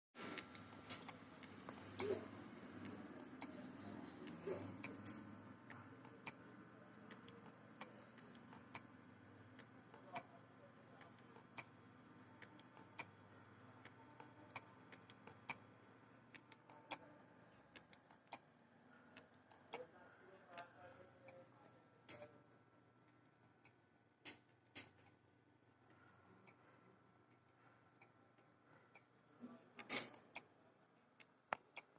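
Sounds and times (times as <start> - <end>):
faint steady hum: 0.2 - 31.9.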